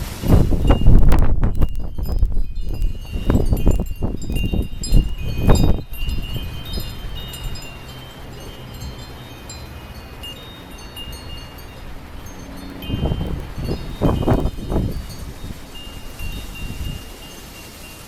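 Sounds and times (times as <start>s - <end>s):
wind: 0.0s - 18.0s
wind buffeting microphone: 0.0s - 18.0s
wind chimes ringing: 0.0s - 18.0s.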